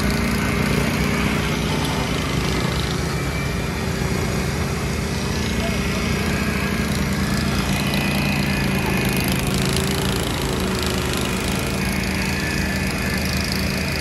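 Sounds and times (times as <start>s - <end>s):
riding lawn mower engine running: 0.0s - 14.0s.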